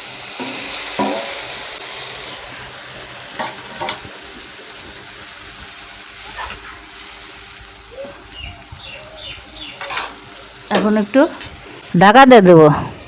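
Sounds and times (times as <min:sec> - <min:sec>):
curry sizzling and bubbling: 0:00.0 - 0:12.4.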